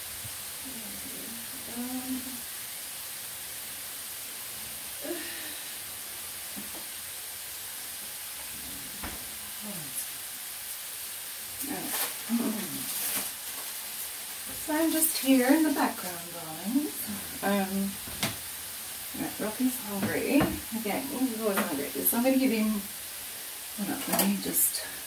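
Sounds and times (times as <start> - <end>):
potato chips frying in oil: 0.0 - 25.0.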